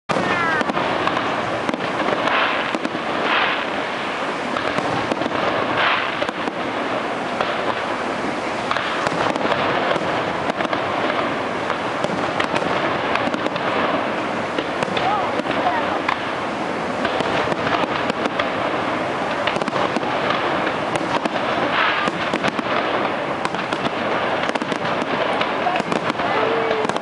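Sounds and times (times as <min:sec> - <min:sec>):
fireworks cracking and crackling: 0:00.0 - 0:27.0
steady rushing noise: 0:00.1 - 0:27.0.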